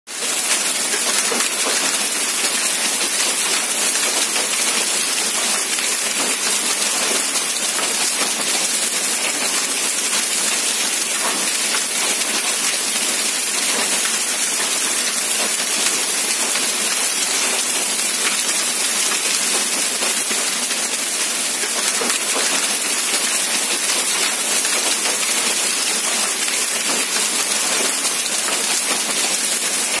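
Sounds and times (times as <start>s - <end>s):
heavy rain on a sheet roof: 0.1s - 30.0s
water pouring off roof edge: 0.1s - 30.0s.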